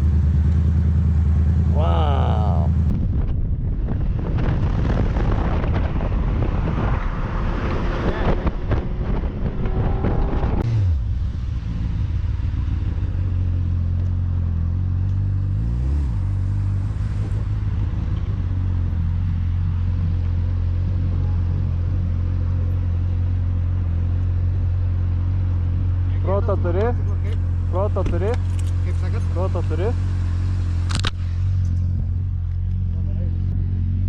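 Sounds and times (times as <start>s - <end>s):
motorcycle engine: 0.0s - 34.0s
wind and road noise: 0.0s - 34.0s.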